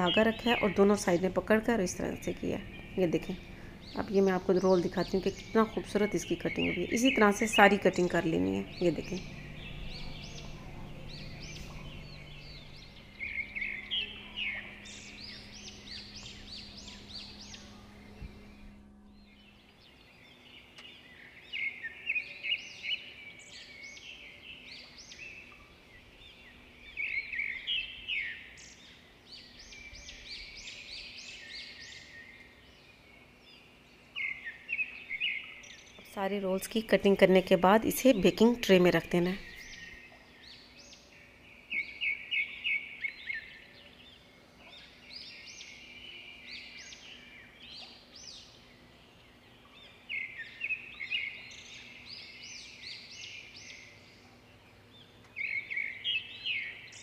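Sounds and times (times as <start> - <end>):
low steady hum: 0.0 - 57.0
small birds chirping: 0.0 - 57.0.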